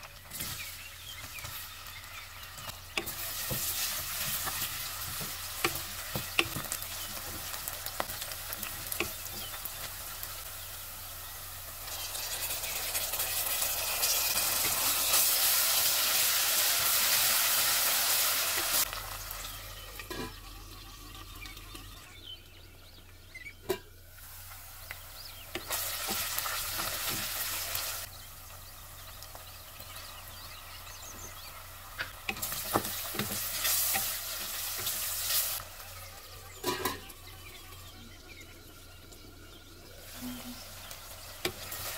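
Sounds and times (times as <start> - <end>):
onions sizzling in oil: 0.0 - 23.0, 23.6 - 41.9.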